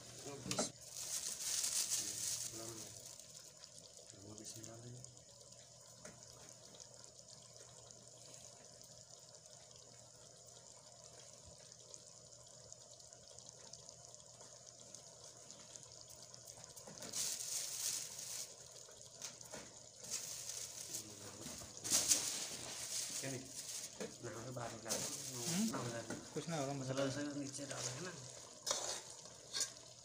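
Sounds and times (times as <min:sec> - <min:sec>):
gravy bubbling in a pot: 0:00.0 - 0:30.0.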